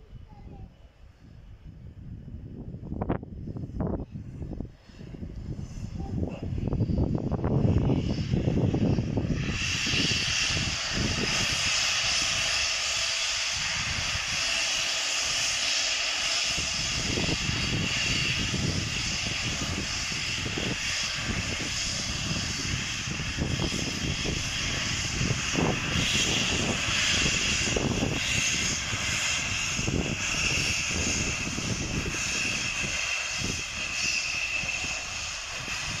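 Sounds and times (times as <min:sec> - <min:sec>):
steam locomotive rumbling: 0:01.3 - 0:36.0
steam hissing: 0:04.8 - 0:36.0.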